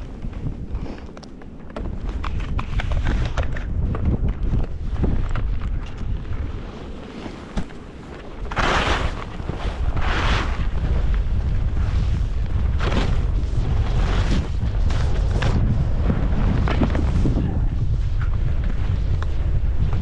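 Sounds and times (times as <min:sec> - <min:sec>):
skis scraping over snow: 0:00.0 - 0:20.0
wind buffeting microphone: 0:00.0 - 0:20.0.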